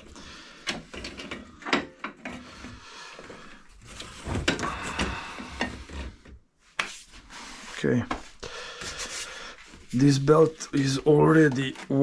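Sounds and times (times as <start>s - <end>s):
objects scraping and rubbing: 0.0s - 12.0s.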